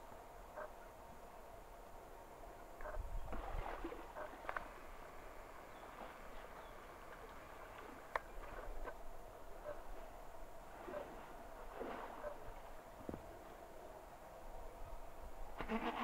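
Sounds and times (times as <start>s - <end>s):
forest ambience: 0.0s - 16.0s.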